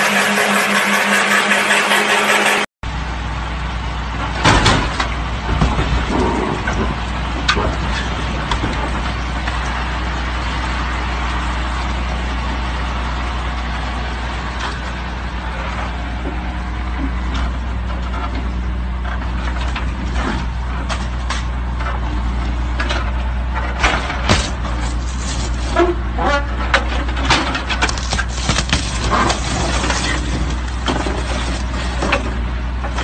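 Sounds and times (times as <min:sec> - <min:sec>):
heavy diesel engine droning: 0:00.0 - 0:33.0.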